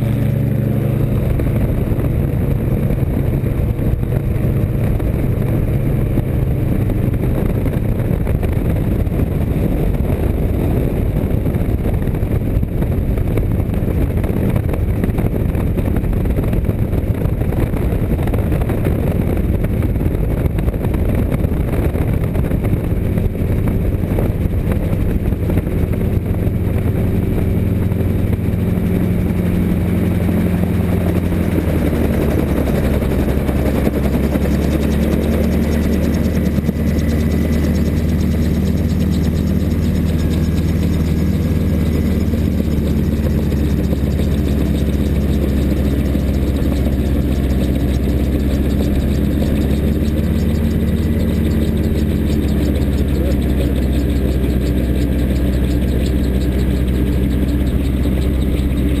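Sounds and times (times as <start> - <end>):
aircraft engine and propeller: 0.0 - 59.0
wind rushing over microphone: 0.0 - 59.0.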